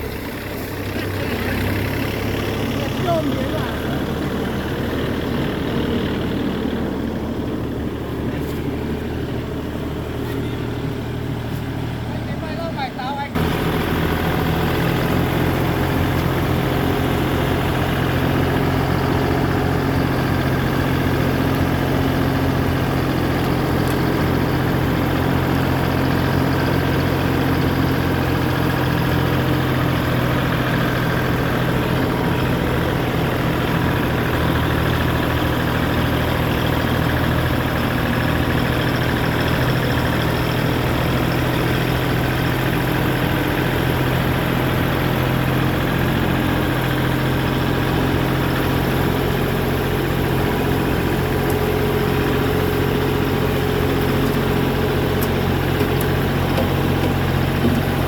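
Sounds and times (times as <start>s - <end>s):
tractor engine running steadily: 0.0s - 58.0s.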